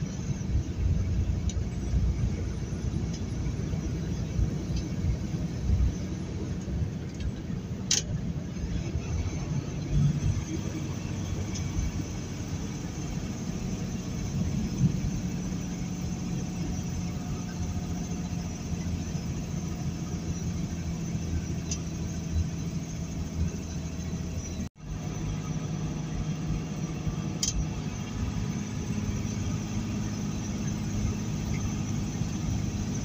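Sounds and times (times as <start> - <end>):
road and tyre noise: 0.0 - 33.0
truck diesel engine droning: 0.0 - 33.0.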